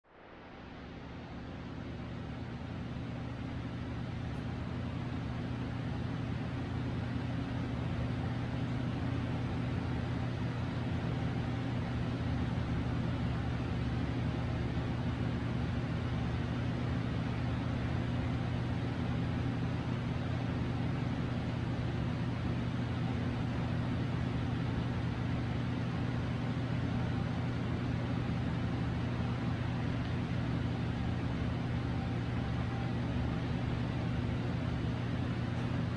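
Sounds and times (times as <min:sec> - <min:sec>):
low mechanical hum: 0:00.1 - 0:35.9.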